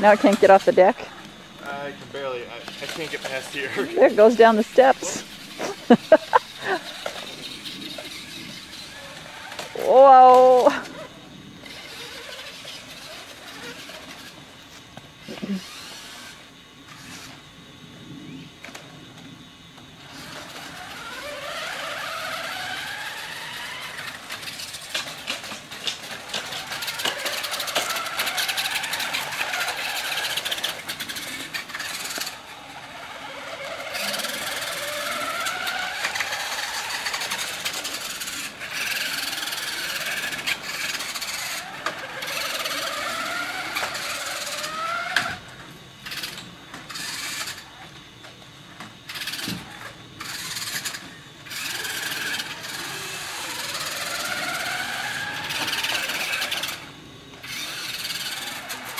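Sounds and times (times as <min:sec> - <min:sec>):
electric toy truck motors whining: 0:00.0 - 0:17.6, 0:18.3 - 0:58.9
wheels rattling over flagstones: 0:00.0 - 0:17.6, 0:18.3 - 0:58.9.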